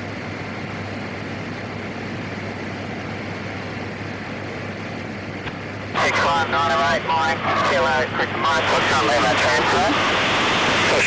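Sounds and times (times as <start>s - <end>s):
turboprop engine drone: 0.0s - 11.0s.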